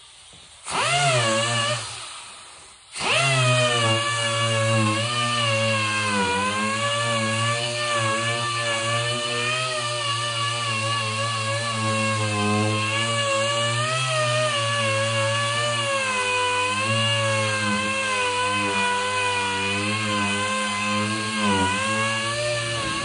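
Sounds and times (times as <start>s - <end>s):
power tool motor running: 0.6s - 23.0s.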